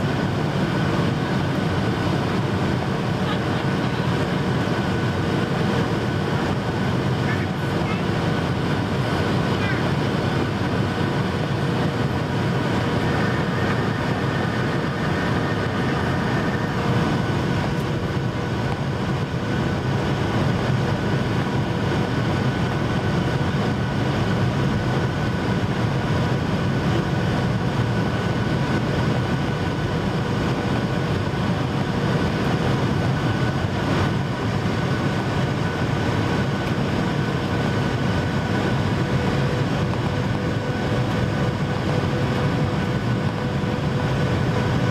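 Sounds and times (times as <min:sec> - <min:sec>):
jet engine roar in cabin: 0:00.0 - 0:44.9.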